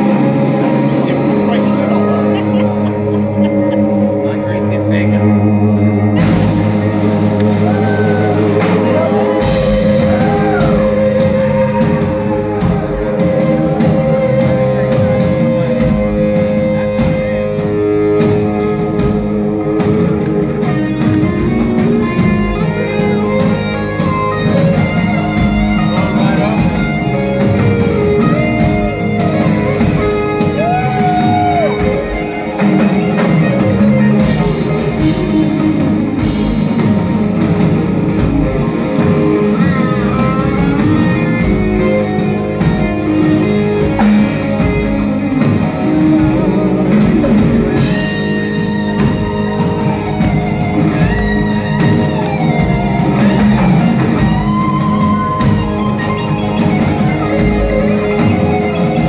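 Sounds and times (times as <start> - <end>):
bass guitar: 0.0 - 59.0
distorted electric guitars: 0.0 - 59.0
drum kit: 0.0 - 59.0.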